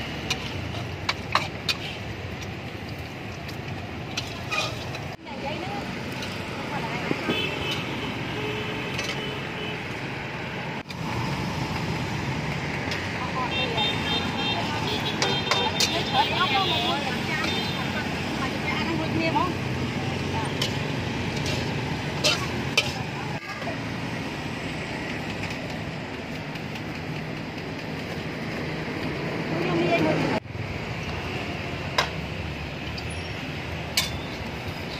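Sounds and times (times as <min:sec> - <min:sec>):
street traffic noise: 0:00.0 - 0:34.9.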